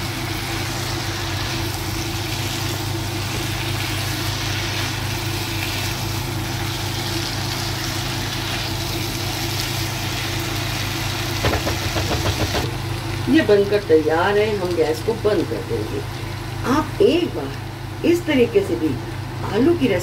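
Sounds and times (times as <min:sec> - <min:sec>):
potatoes stir-frying in a pan: 0:00.0 - 0:18.5.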